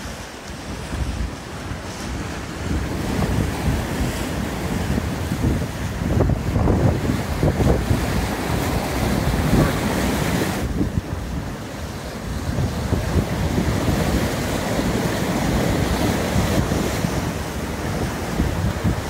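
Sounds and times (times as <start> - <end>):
water slapping along hull: 0.0 - 19.0
wind buffeting microphone: 0.0 - 19.0.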